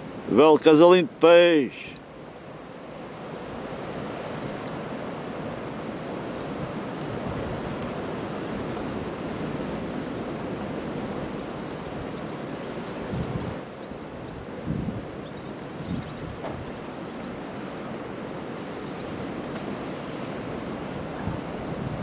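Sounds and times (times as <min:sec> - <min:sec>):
sea surging against rocks: 0:00.0 - 0:22.0
wind: 0:00.0 - 0:22.0.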